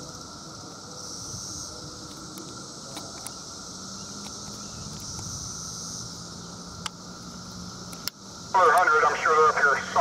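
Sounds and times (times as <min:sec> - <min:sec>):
distant diesel train hum: 0:00.0 - 0:10.0
insects buzzing: 0:00.0 - 0:10.0.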